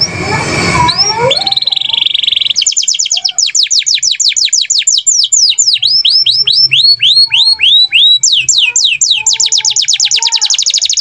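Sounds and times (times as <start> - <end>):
songbird singing: 0.8 - 11.0.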